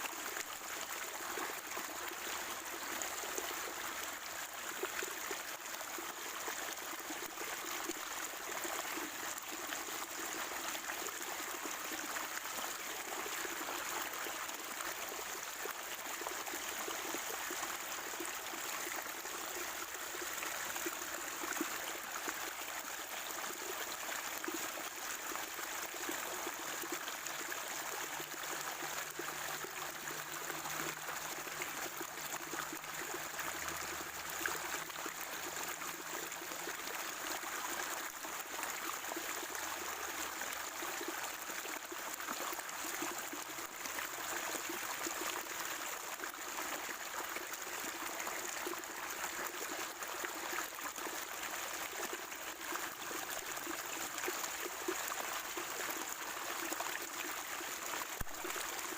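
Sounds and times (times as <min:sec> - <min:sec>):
stream water gurgling: 0:00.0 - 0:58.9.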